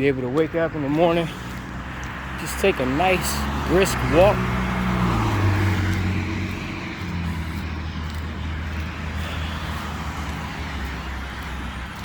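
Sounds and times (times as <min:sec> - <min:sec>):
car engine hum: 0:00.4 - 0:12.0.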